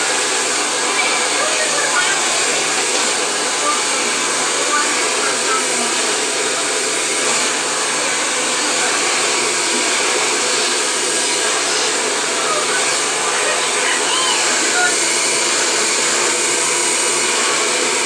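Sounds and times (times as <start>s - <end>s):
hair dryer blowing: 0.0s - 18.0s.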